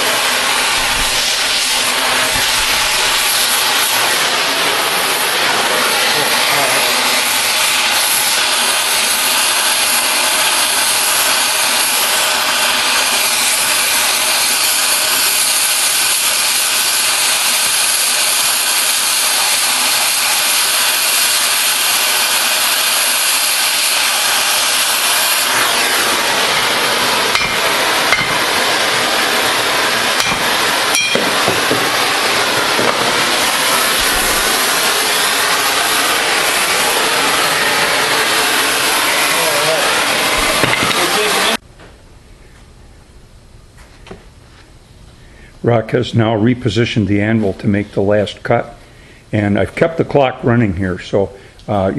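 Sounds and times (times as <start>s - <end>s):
cutting torch hissing: 0.0s - 41.6s.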